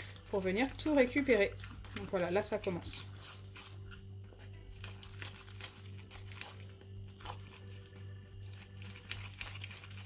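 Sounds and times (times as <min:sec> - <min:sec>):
steady low hum: 0:00.0 - 0:10.0
stick stirring sticky slime: 0:00.0 - 0:10.0.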